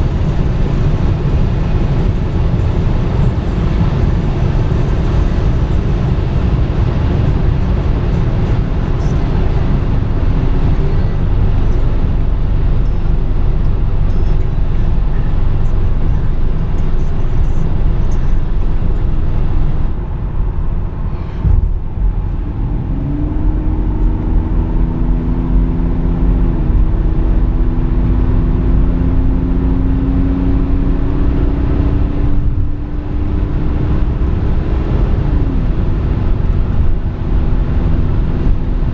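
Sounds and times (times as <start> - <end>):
diesel engine drone: 0.0 - 38.9
wind and road noise: 0.0 - 38.9.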